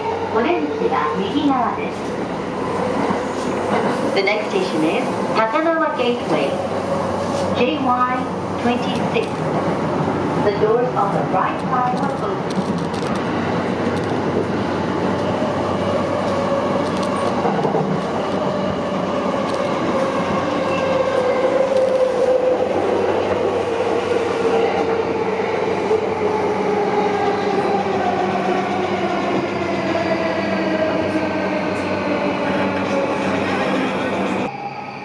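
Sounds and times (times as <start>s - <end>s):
train wheels rumbling on rail: 0.0s - 34.5s.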